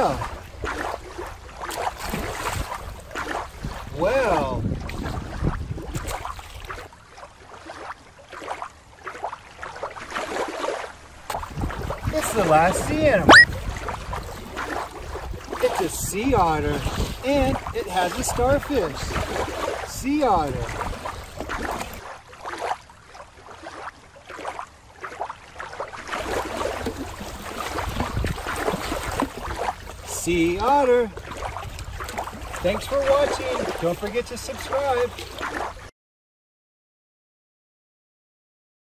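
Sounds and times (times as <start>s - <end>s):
sea ambience: 0.0s - 35.9s
soft water splashes: 0.0s - 35.9s.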